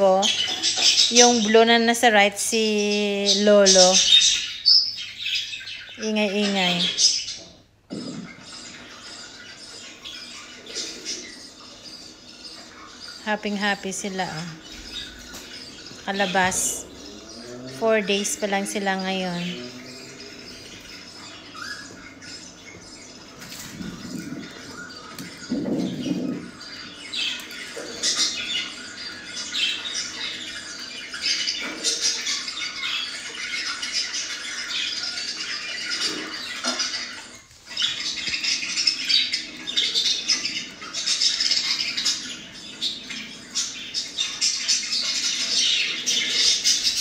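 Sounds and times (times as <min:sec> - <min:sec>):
budgerigars chattering: 0:00.0 - 0:47.0.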